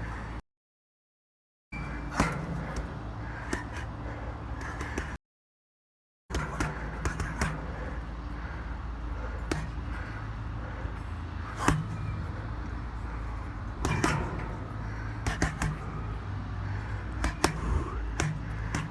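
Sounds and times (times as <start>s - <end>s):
low traffic rumble: 1.8s - 5.2s, 6.3s - 18.9s.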